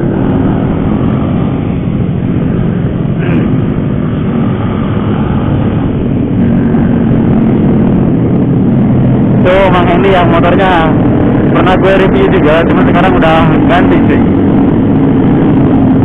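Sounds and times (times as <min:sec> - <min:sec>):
motorcycle engine running: 0:00.0 - 0:16.0
wind rumble on microphone: 0:00.0 - 0:16.0.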